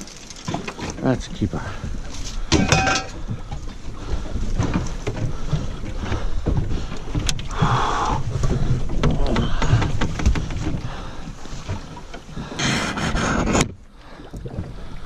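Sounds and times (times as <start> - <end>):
wind and water against hull: 0.0 - 15.0.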